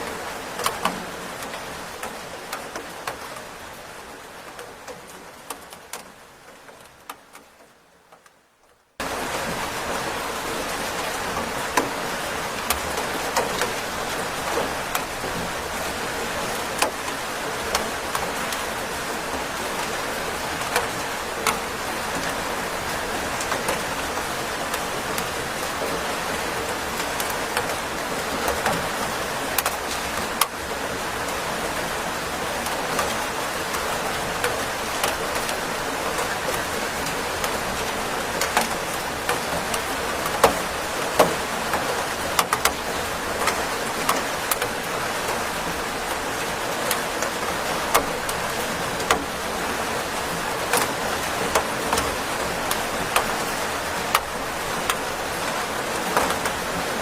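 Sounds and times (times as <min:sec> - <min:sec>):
rain falling: 0:00.0 - 0:57.0
raindrops dripping: 0:00.0 - 0:57.0.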